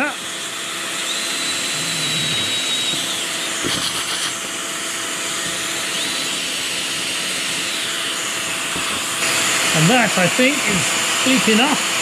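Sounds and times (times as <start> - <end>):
cordless drill boring into wood: 0.0 - 12.0
dust extractor running: 0.0 - 12.0
high whine: 1.0 - 12.0.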